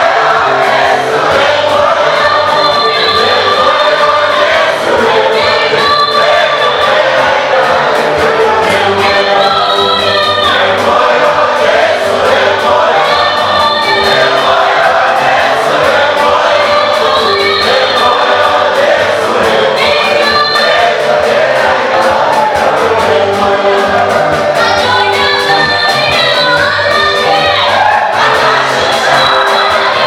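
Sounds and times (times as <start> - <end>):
bass line: 0.0 - 30.0
choir singing gospel: 0.0 - 30.0
fast even beat: 0.0 - 30.0.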